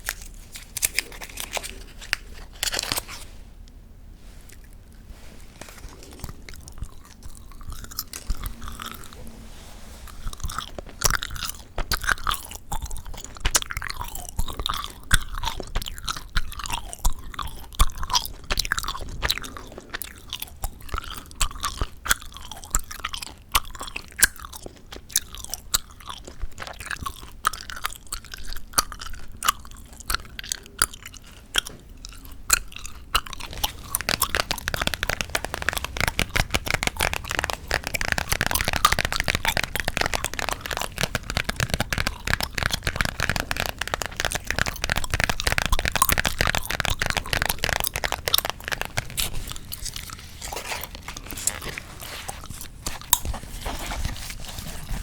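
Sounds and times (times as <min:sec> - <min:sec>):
gum chewing wet smacking: 0:05.6 - 0:09.4, 0:10.0 - 0:55.0.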